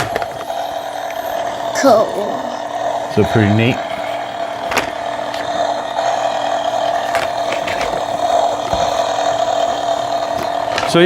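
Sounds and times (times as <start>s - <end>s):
toy engine sound effect: 0.0s - 11.0s.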